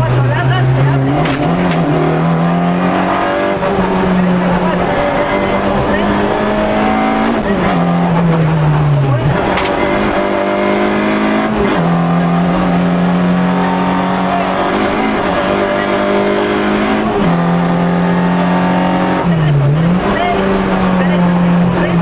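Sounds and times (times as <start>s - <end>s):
rally car engine at high revs: 0.0s - 22.0s.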